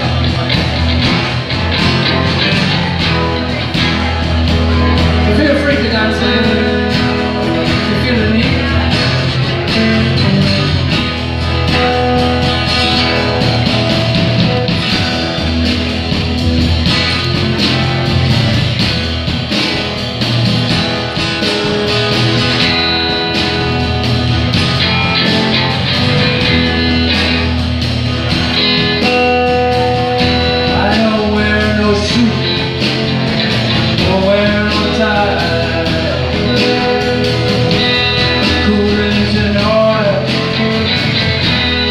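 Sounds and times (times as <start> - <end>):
rock band playing live: 0.0 - 41.9.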